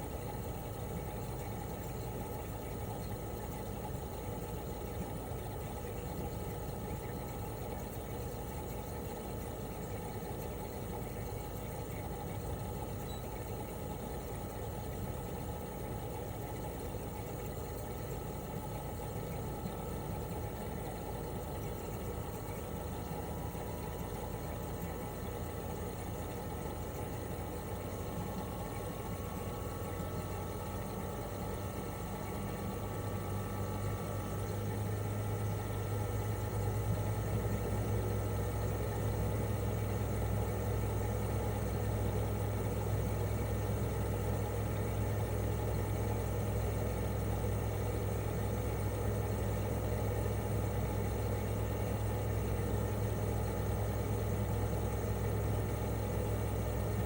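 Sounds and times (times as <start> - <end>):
compressor humming: 0.0 - 57.0.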